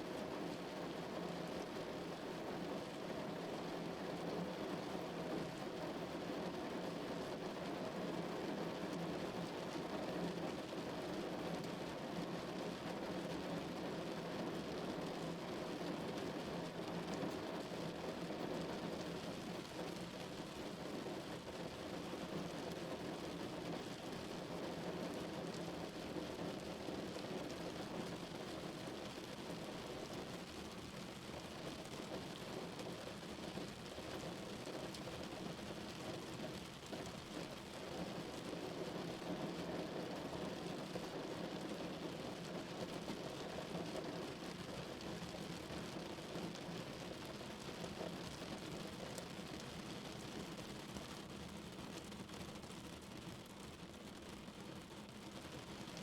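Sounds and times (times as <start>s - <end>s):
rain drumming on car roof: 0.2s - 56.0s.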